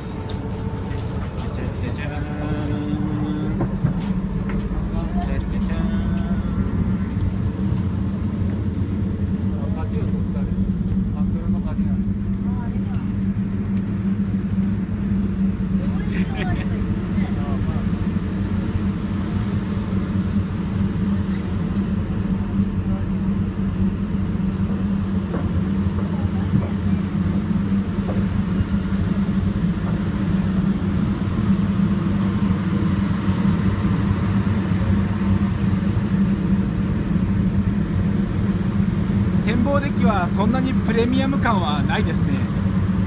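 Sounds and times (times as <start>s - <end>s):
ship engines droning: 0.0s - 43.0s.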